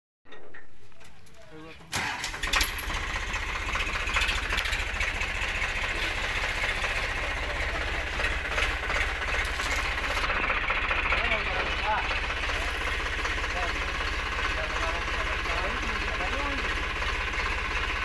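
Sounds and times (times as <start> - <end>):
diesel tractor engine running: 0.4 - 18.0.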